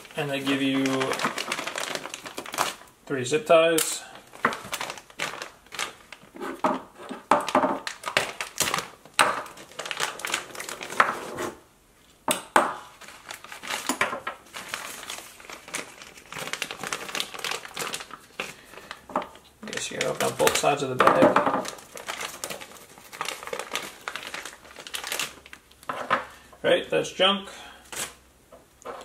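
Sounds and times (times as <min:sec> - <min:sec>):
plastic bags crinkling: 0:00.0 - 0:11.3, 0:12.8 - 0:26.5.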